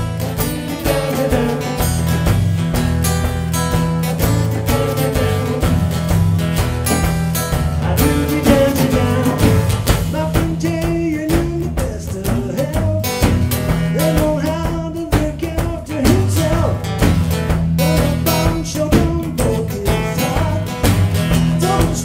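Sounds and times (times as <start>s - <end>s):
rock blues band music: 0.0s - 22.0s.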